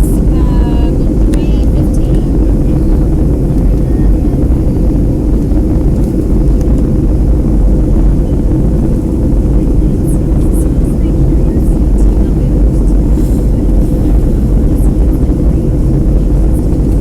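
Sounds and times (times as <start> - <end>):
faint steady hum: 0.0 - 17.0
jet engine rumble in cabin: 0.0 - 17.0.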